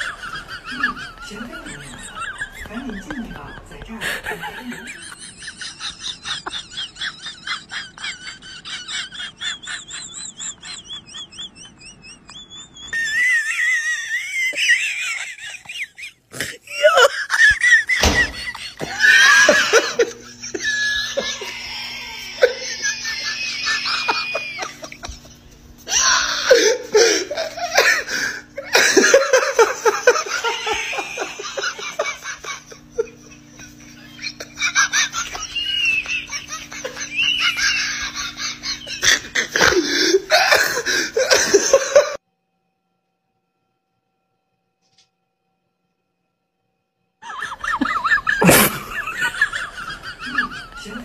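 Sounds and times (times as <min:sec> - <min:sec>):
high-pitched squealing laughs: 0:00.0 - 0:42.2, 0:47.2 - 0:51.0
loud laughter: 0:00.0 - 0:42.2, 0:47.2 - 0:51.0.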